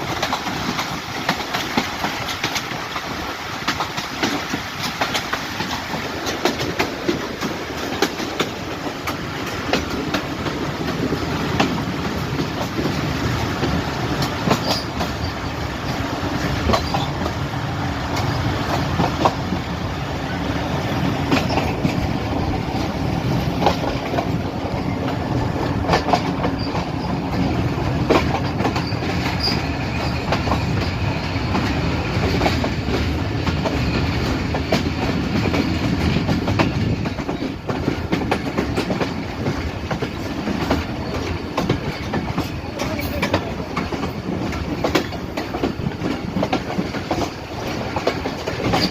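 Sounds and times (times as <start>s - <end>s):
train wheels rumbling on rails: 0.0s - 48.9s
wheels clacking over rail joints: 0.0s - 48.9s.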